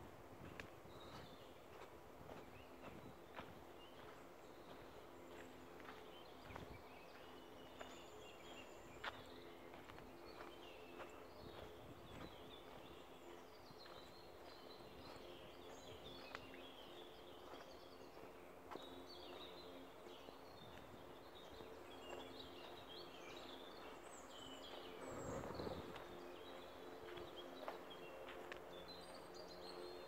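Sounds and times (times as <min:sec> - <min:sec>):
small birds chirping and singing: 0:00.4 - 0:30.0.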